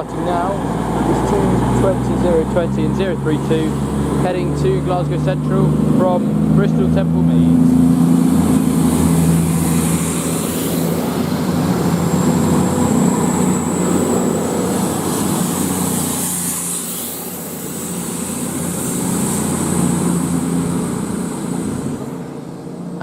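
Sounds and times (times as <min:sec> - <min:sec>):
high steady whine: 0:00.0 - 0:23.0
train diesel engines: 0:00.0 - 0:23.0
wheel and rail noise: 0:00.0 - 0:23.0.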